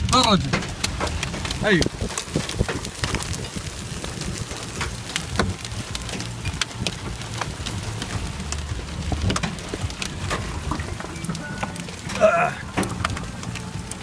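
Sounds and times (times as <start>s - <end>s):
hailstones striking a car: 0.0s - 14.0s
low rumble of moving car: 0.0s - 14.0s.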